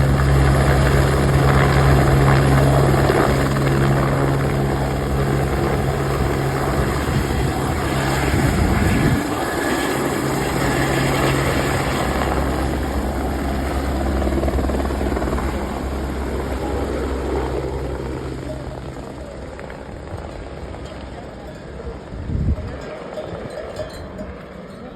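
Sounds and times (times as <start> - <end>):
helicopter rotor and engine: 0.0 - 24.9.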